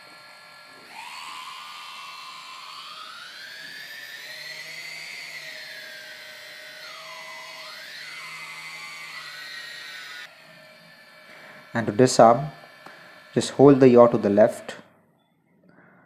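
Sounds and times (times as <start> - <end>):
electric motors whining: 0.0 - 14.8.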